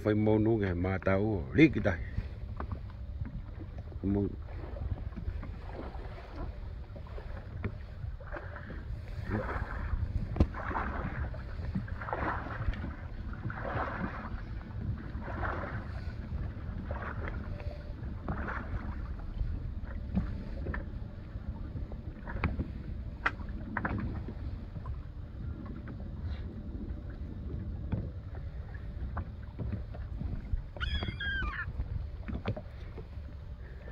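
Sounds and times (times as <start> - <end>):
water slapping against hull: 0.0 - 33.9
wind buffeting microphone: 0.0 - 33.9.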